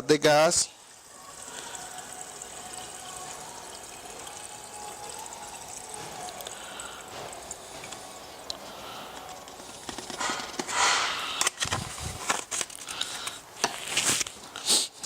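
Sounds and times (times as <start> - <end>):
fuel pouring into tank: 0.6 - 15.0.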